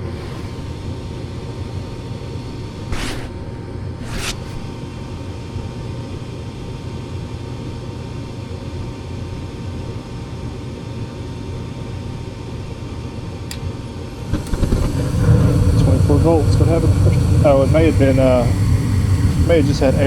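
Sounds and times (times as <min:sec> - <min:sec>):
gas furnace humming: 0:00.0 - 0:20.0.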